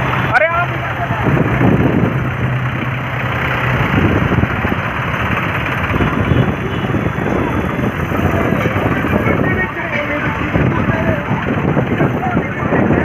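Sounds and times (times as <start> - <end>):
tractor diesel engines rumbling: 0.0 - 13.0.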